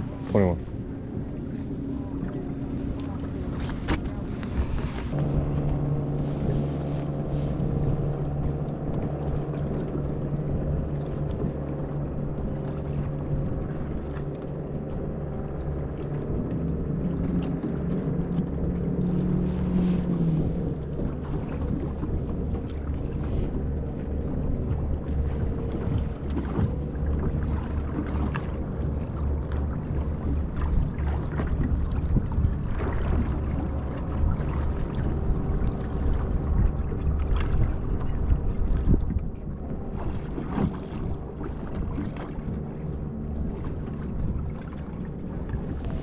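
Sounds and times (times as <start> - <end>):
boat motor running: 0.0 - 46.0.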